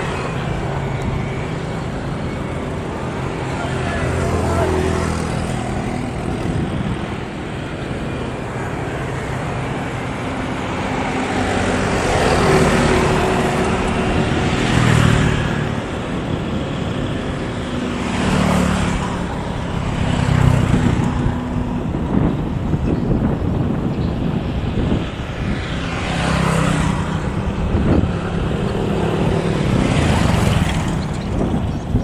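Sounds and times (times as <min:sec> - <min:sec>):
vehicle engines droning: 0:00.0 - 0:32.0
vehicles passing close by: 0:00.0 - 0:32.0.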